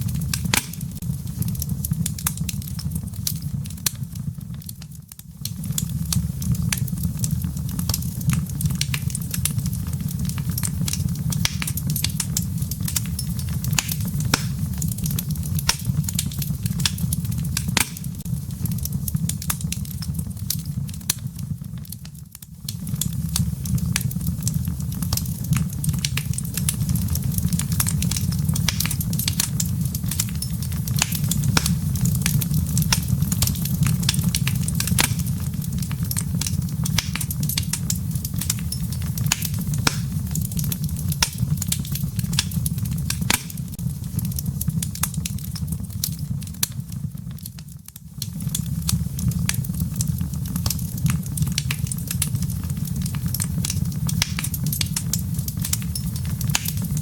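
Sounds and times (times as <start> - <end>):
embers popping and snapping: 0.0 - 57.0
wood fire crackling: 0.0 - 57.0.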